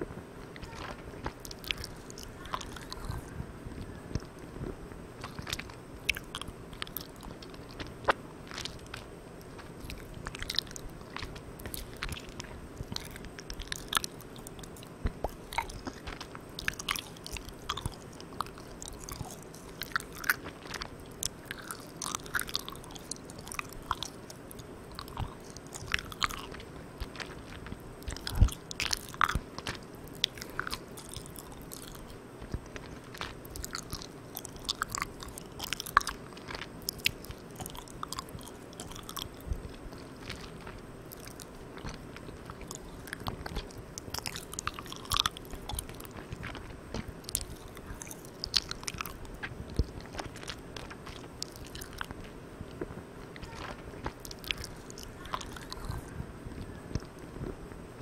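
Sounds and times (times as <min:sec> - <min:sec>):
faint steady hiss: 0:00.0 - 0:58.0
mouth chewing sticky candy: 0:00.0 - 0:58.0.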